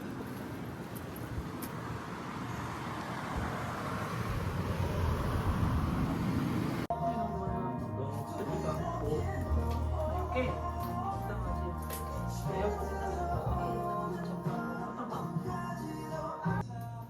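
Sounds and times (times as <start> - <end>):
road traffic passing: 0.0 - 15.7.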